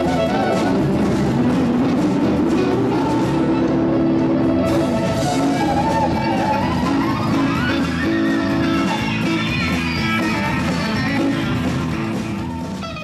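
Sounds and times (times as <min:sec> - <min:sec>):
electric guitar: 0:00.0 - 0:13.0
fiddle playing blues tune: 0:00.0 - 0:13.0.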